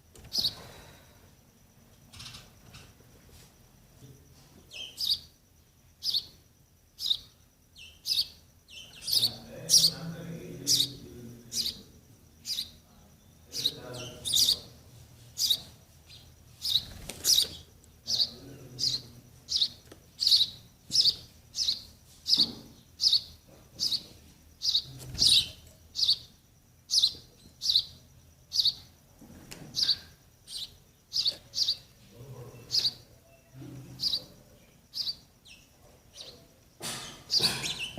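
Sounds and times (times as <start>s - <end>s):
sparrow chicks chirping: 0.0s - 0.9s, 1.9s - 3.2s, 4.2s - 37.9s.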